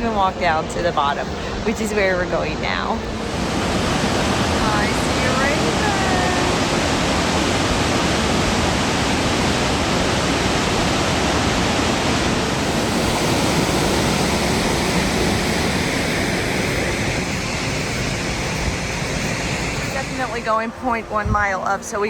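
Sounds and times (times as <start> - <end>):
waterfall rushing: 3.0 - 21.3.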